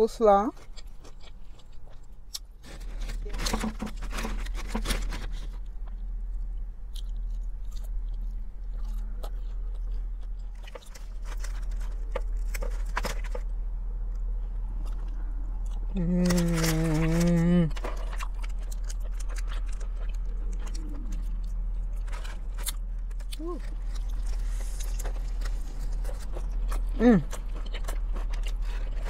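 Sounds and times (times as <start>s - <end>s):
chewing and crunching food: 0.0s - 29.0s
low hum: 1.8s - 29.0s.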